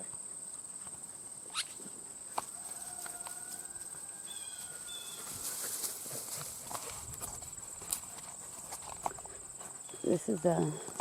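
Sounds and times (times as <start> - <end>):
insects trilling: 0.0 - 11.0
light footsteps: 1.8 - 11.0.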